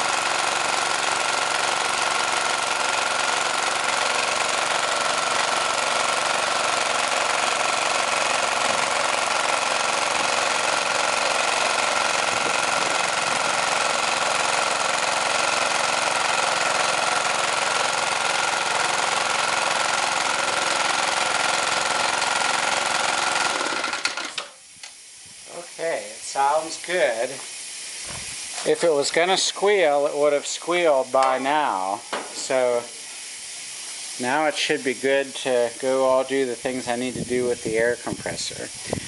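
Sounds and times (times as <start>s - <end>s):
small engine running: 0.0s - 24.6s, 25.5s - 39.0s.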